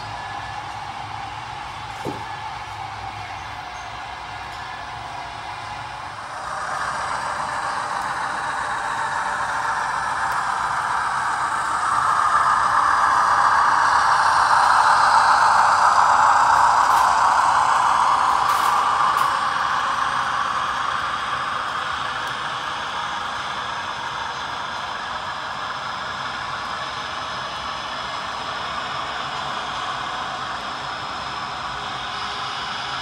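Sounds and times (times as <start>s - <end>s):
model trains rattling on track: 0.0s - 33.0s.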